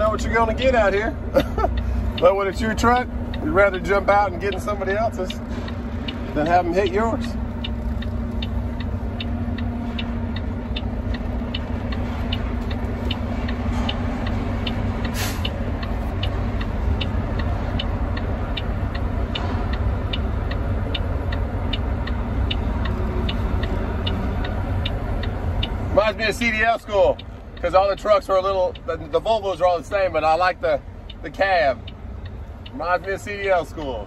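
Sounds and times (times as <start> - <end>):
fast regular ticking: 0.0 - 33.6
diesel engine rumbling: 0.0 - 34.0.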